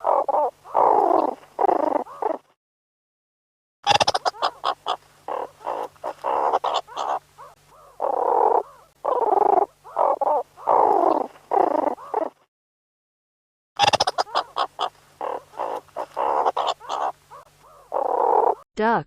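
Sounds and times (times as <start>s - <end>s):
meerkats calling: 0.0s - 2.6s, 3.9s - 12.4s, 13.8s - 18.6s.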